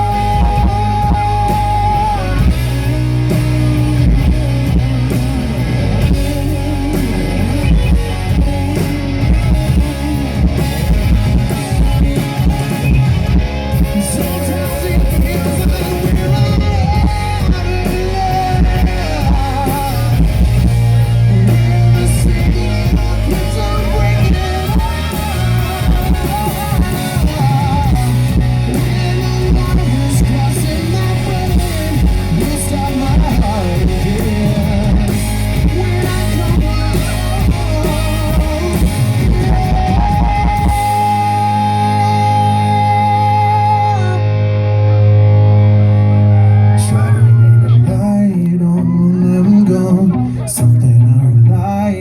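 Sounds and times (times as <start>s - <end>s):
lead guitar: 0.0s - 52.0s
live rock band: 0.0s - 52.0s.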